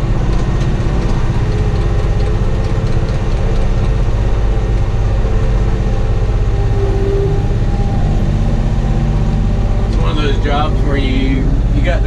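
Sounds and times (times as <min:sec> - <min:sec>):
high whine: 0:00.0 - 0:12.0
tractor diesel engine running: 0:00.0 - 0:12.0.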